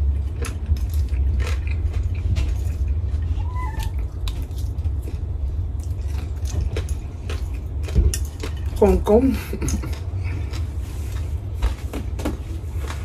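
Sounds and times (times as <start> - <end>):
chewing crunches: 0.0 - 11.8
steady low hum: 0.0 - 13.0.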